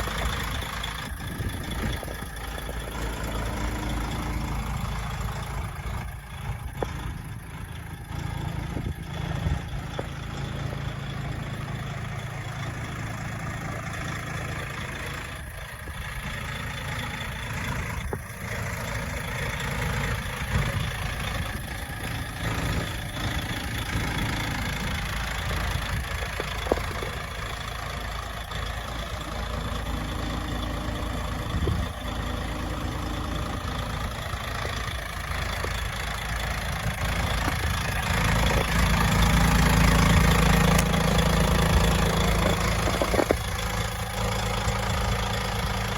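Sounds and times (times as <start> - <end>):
diesel truck idling: 0.0 - 45.9.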